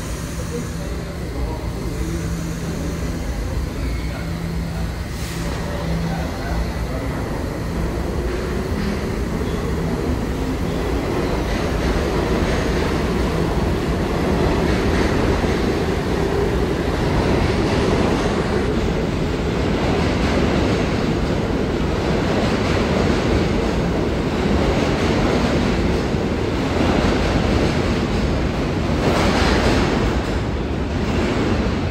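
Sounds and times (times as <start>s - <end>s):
subway train rumbling on rails: 0.0s - 31.9s.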